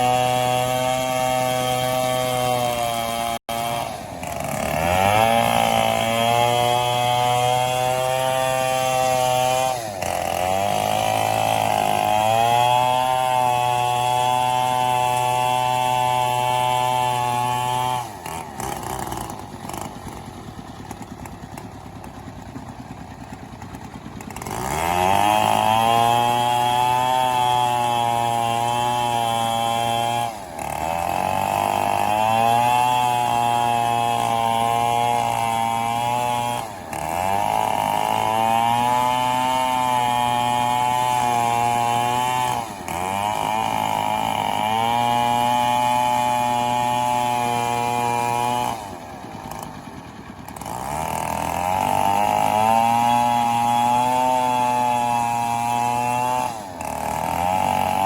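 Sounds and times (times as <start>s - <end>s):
chainsaw sawing through wood: 0.0s - 58.0s.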